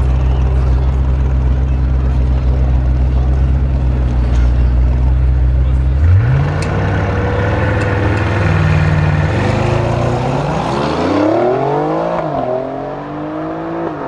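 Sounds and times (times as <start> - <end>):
car engines accelerating: 0.0 - 14.0.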